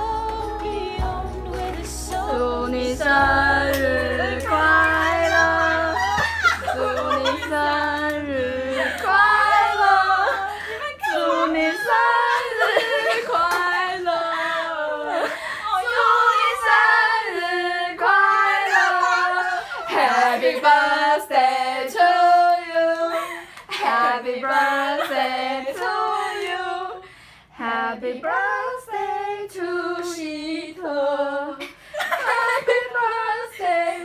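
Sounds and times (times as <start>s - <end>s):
woman singing: 0.0s - 27.0s, 27.6s - 34.0s.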